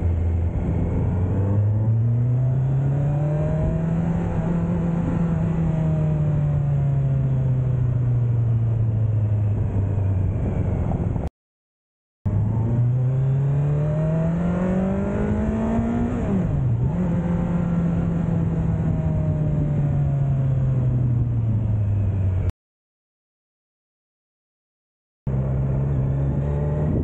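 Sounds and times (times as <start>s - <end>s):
motorcycle engine accelerating: 0.0s - 11.3s, 12.3s - 22.5s, 25.3s - 27.0s.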